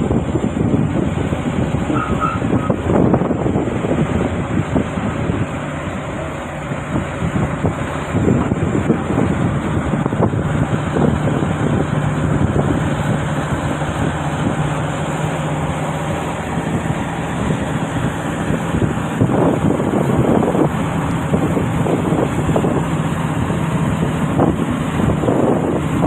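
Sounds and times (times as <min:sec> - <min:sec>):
heavy diesel engine humming: 0:00.0 - 0:26.0
wind buffeting microphone: 0:00.0 - 0:26.0.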